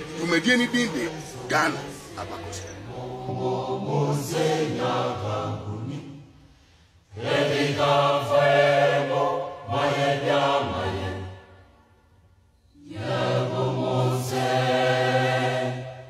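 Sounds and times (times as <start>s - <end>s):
choir singing: 0.0s - 12.0s, 12.6s - 16.0s.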